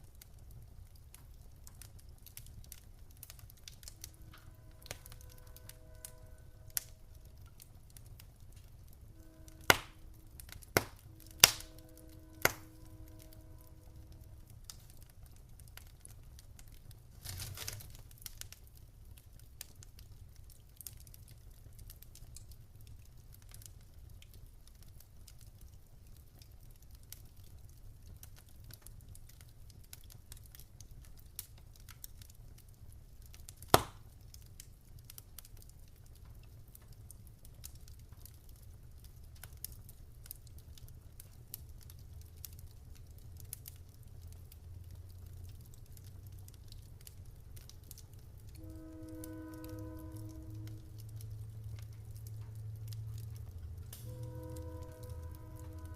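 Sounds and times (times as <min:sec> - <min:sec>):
low steady rumble: 0:00.0 - 0:31.8, 0:35.7 - 0:55.9
wood fire crackling: 0:00.0 - 0:55.9.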